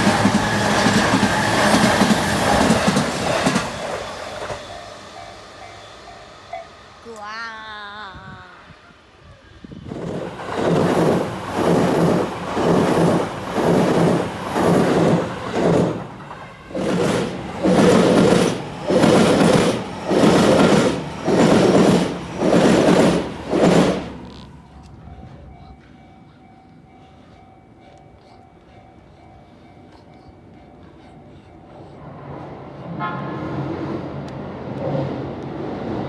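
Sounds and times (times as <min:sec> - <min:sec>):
train wheels rumbling over rails: 0:00.0 - 0:07.2, 0:09.5 - 0:36.0.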